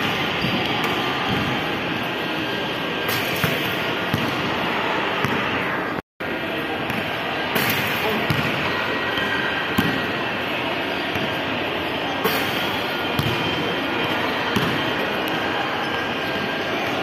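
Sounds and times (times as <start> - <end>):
crowd noise: 0.0 - 17.0.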